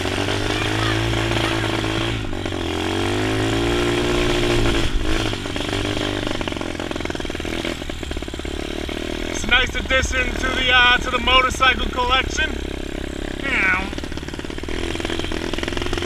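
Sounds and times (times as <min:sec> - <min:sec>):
pit bike engine revving: 0:00.0 - 0:16.0.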